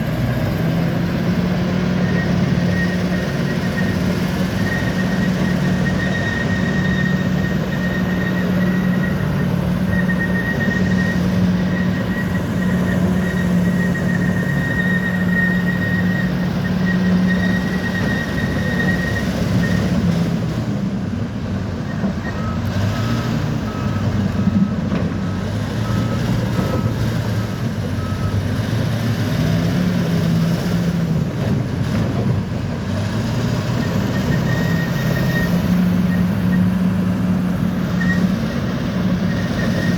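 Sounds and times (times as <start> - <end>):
bulldozer diesel engine running: 0.0 - 39.9
reversing alarm beeps: 0.2 - 20.1, 21.9 - 28.6, 33.7 - 39.9.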